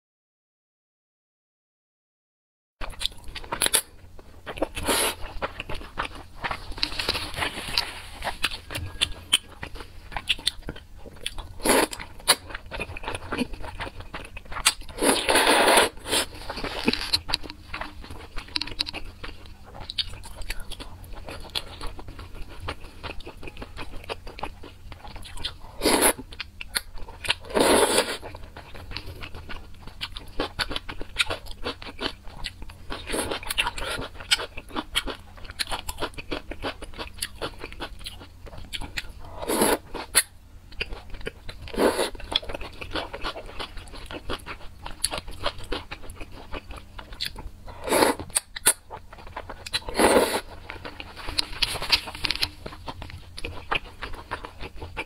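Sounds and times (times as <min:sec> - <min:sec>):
wet chewing: 0:02.8 - 0:55.0.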